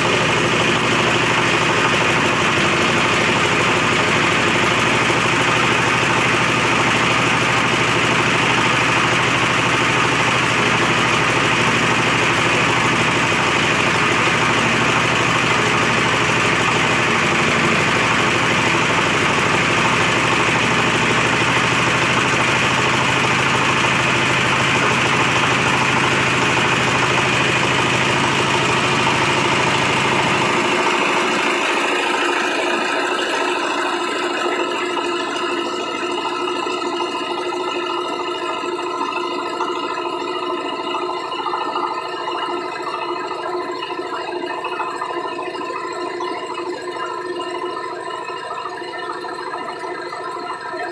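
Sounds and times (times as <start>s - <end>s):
pellet machine clatter and hum: 0.0s - 50.9s.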